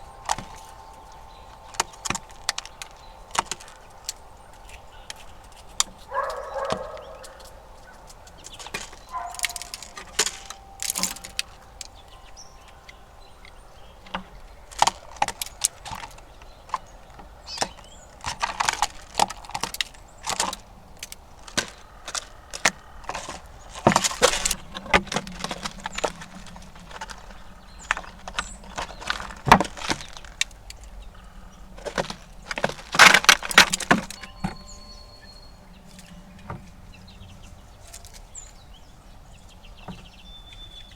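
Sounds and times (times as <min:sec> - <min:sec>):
squirrels gnawing and scrabbling: 0:00.0 - 0:40.9.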